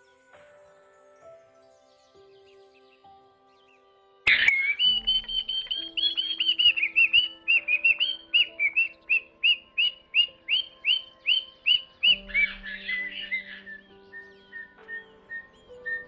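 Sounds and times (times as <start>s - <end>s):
soft background music: 0.0s - 16.0s
bird chirping: 1.6s - 16.0s.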